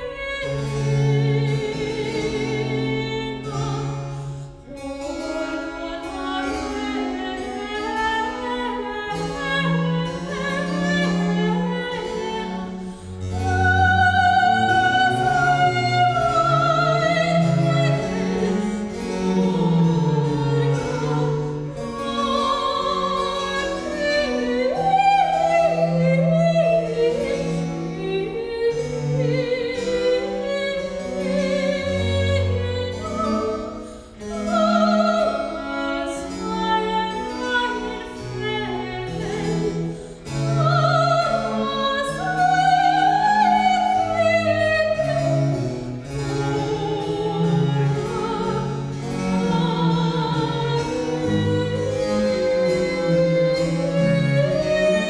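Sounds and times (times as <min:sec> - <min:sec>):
soprano singing with vibrato: 0:00.0 - 0:45.5, 0:46.1 - 0:55.0
cello playing bass line: 0:00.0 - 0:55.0.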